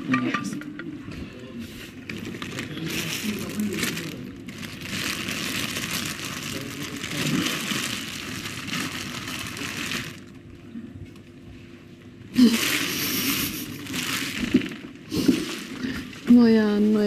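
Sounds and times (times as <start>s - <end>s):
plastic bag rustling: 1.7s - 11.4s, 12.4s - 17.0s.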